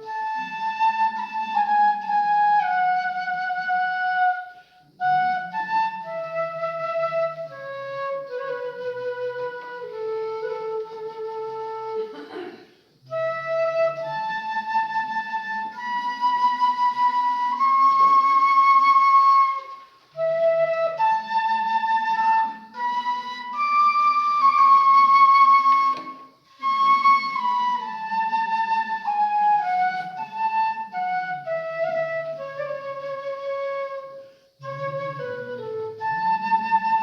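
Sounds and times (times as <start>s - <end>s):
bamboo flute hymn melody: 0.0s - 37.0s.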